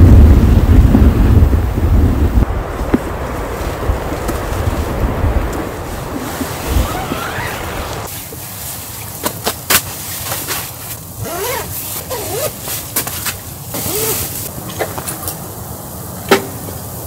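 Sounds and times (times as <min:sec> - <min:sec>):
wind blowing against tent: 0:00.0 - 0:17.0.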